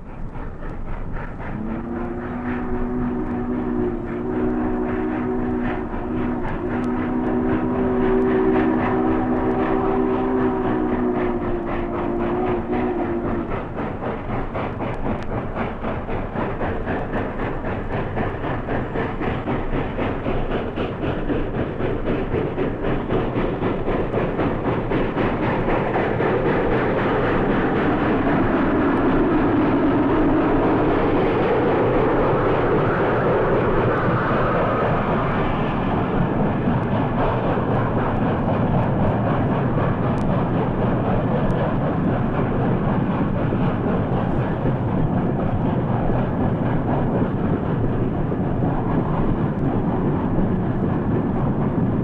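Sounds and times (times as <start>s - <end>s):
steam locomotive exhaust beats: 0.0s - 52.0s.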